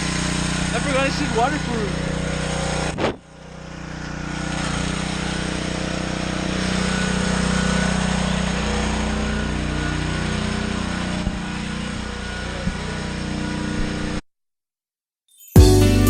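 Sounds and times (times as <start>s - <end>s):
engine running with low tones: 0.0s - 14.2s.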